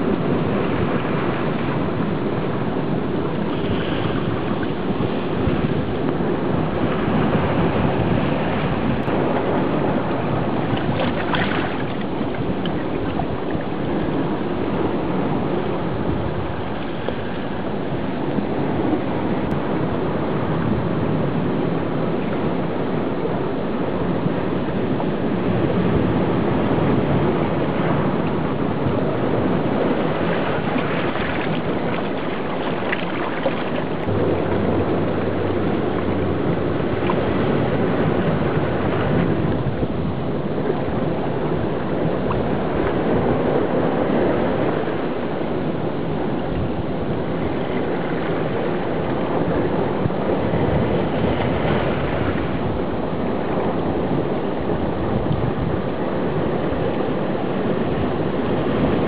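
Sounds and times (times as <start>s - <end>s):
muffled underwater water sloshing: 0.0s - 23.4s, 24.0s - 59.0s
low hum: 0.0s - 54.1s.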